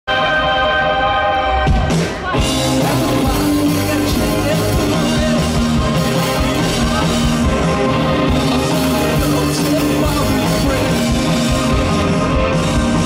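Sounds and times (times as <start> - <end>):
live rock band playing: 0.1 - 13.0.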